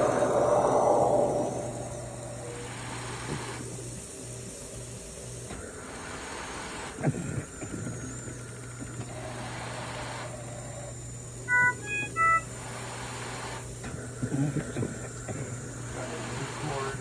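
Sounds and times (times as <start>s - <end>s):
air hissing through mask: 0.0s - 17.0s
steady low hum: 0.0s - 17.0s.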